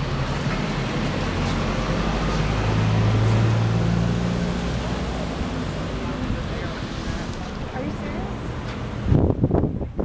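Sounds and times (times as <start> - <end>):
engine running drone: 0.0 - 9.4.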